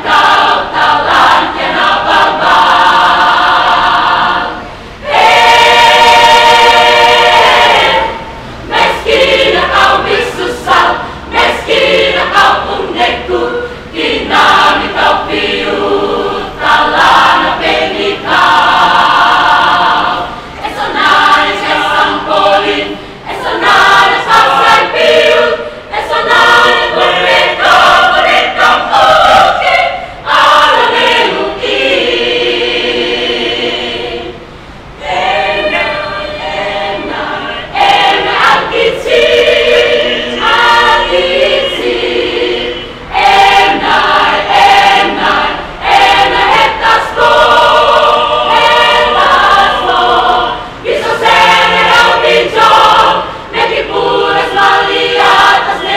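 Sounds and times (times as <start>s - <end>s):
mixed choir singing unaccompanied: 0.0s - 55.9s.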